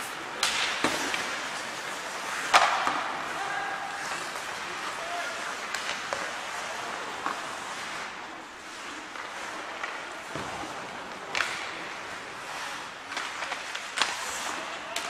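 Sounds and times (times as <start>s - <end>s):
hockey stick and puck clacks: 0.0s - 15.0s
skates scraping on ice: 0.0s - 15.0s.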